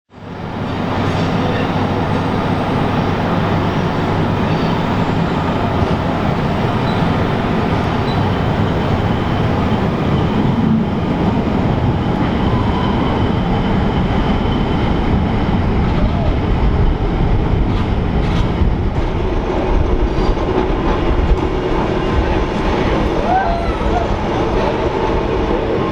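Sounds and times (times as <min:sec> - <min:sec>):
train running on track: 0:00.1 - 0:25.9.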